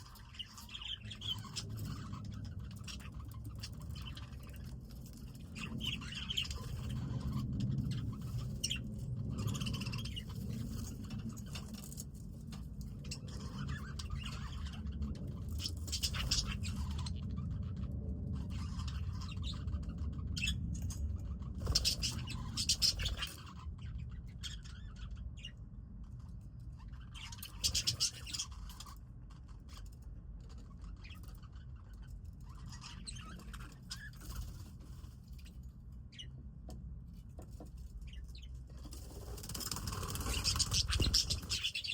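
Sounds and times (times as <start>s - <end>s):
budgies chirping and chattering: 0.0s - 25.6s, 26.2s - 36.3s, 38.0s - 41.9s.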